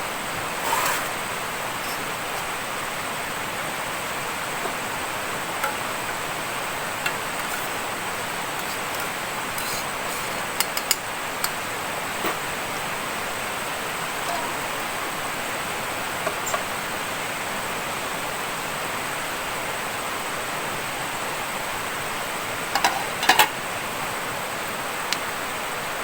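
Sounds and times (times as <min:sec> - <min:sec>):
water rushing: 0:00.0 - 0:22.8.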